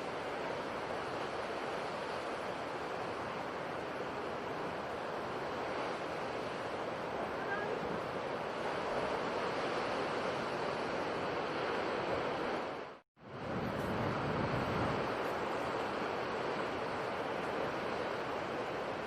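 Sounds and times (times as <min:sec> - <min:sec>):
sea waves washing: 0:00.0 - 0:19.0.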